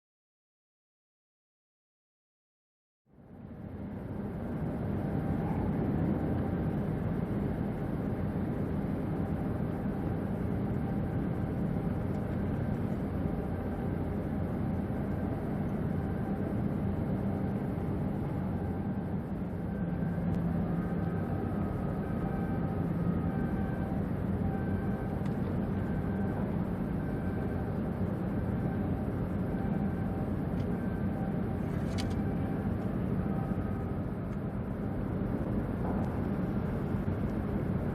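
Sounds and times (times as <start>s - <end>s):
faint steady tones: 3.1s - 37.9s
ship engines droning: 3.1s - 37.9s.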